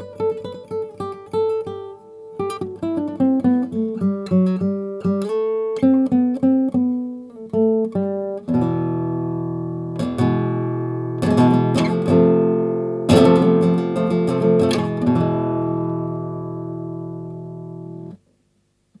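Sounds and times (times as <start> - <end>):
nylon-string guitar strummed: 0.0 - 18.2.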